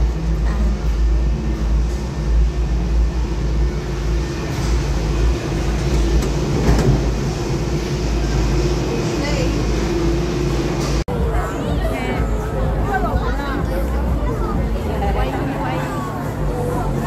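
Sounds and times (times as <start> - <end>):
cable car rumble and hum: 0.0 - 17.0.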